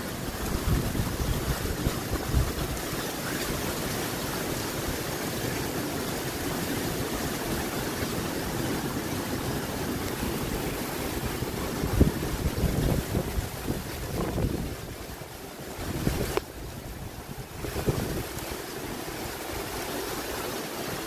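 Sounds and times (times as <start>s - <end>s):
heavy rain: 0.0s - 21.0s
strong wind: 0.0s - 21.0s.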